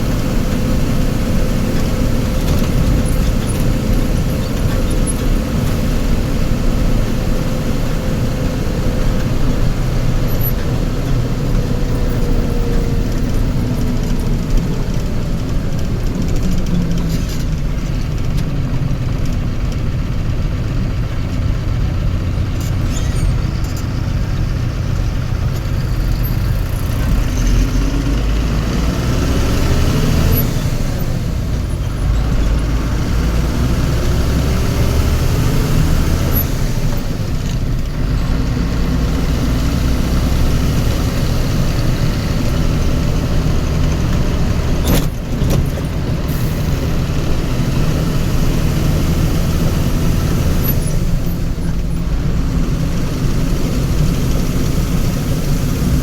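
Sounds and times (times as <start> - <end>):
road traffic noise: 0.0 - 56.0
vehicle engine rumbling: 0.0 - 56.0.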